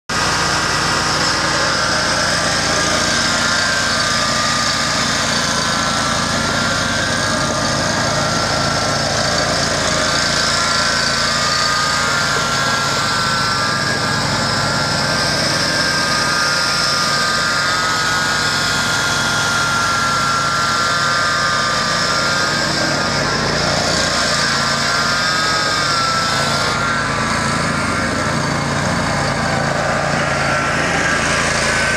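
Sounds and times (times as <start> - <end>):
mower engine running: 0.0 - 31.9
wavering high whine: 0.1 - 31.9.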